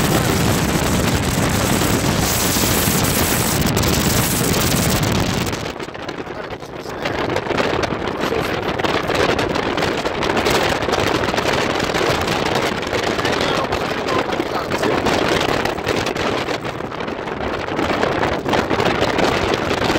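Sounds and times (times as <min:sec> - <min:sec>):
heavy surf: 0:00.0 - 0:19.9
strong wind buffeting microphone: 0:00.0 - 0:19.9.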